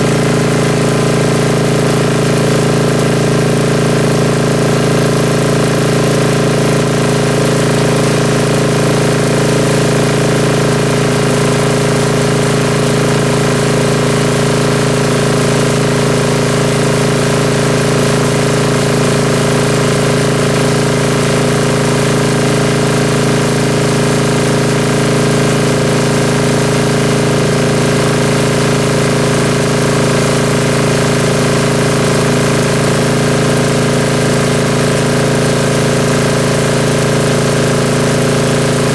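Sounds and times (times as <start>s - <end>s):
air compressor diesel engine running: 0.0s - 38.9s.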